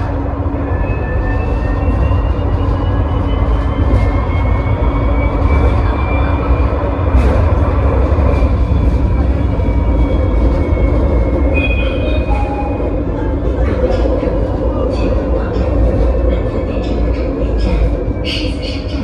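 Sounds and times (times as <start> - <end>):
tram wheels rumbling on rails: 0.0 - 19.0.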